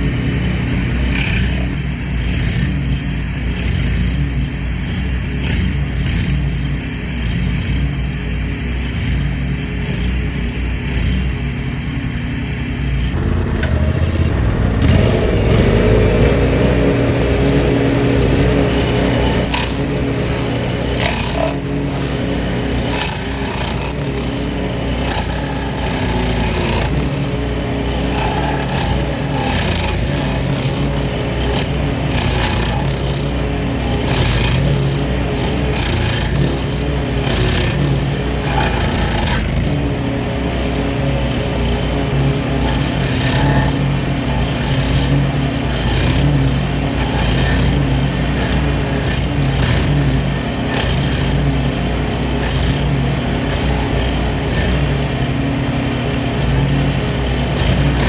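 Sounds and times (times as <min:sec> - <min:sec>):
grass cutting rushes: 0:00.0 - 0:58.0
small petrol engine running: 0:00.0 - 0:58.0.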